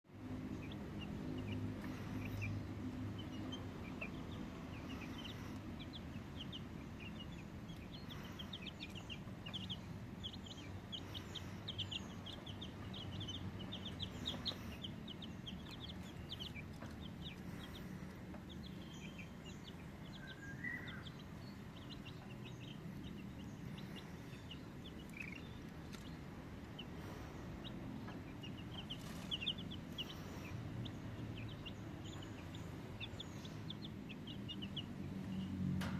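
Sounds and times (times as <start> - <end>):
low steady hum: 0.1 - 35.9
chickens clucking: 0.2 - 35.9.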